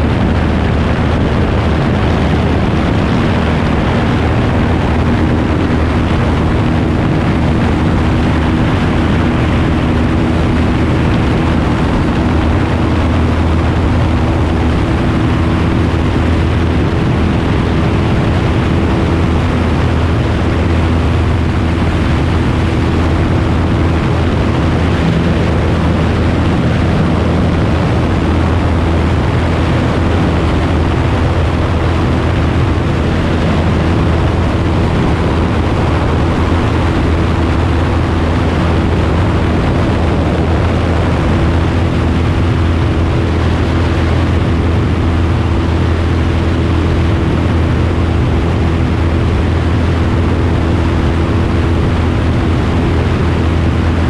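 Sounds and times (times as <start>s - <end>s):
light aircraft engine drone: 0.0s - 54.0s
propeller rushing noise: 0.0s - 54.0s.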